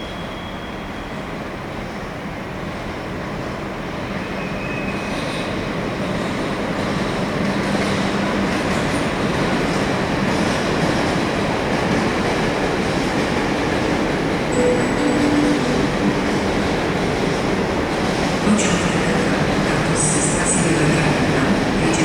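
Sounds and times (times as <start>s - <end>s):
train running on tracks: 0.0s - 22.0s.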